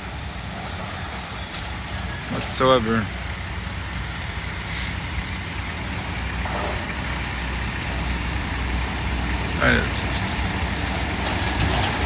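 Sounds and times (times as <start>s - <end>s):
excavator diesel engines humming: 0.0s - 12.0s.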